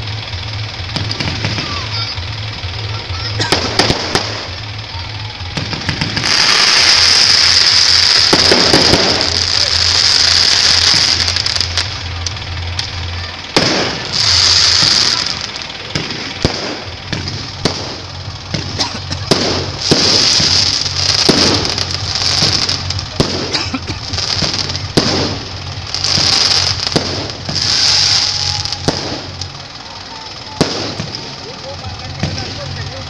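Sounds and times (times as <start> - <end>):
firework bangs: 0.0 - 33.0
firework hissing crackle: 0.0 - 33.0.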